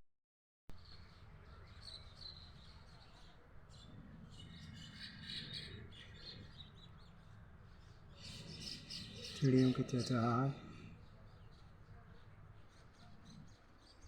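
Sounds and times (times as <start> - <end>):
small birds chirping: 0.8 - 14.0.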